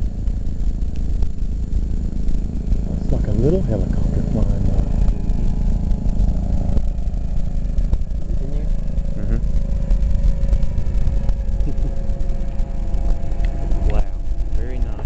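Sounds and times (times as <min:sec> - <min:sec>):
distant rocket rumble: 0:00.0 - 0:15.0.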